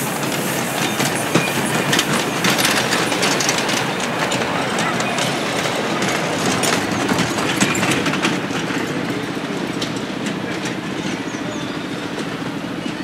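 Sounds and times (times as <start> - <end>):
sharp track clicks: 0.0 - 11.2
miniature train rumbling on track: 0.0 - 13.0.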